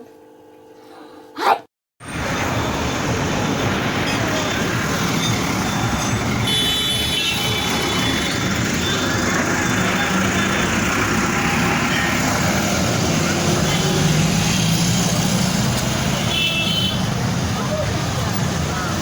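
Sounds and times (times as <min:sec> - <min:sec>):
road traffic vehicles passing: 0:02.0 - 0:19.0.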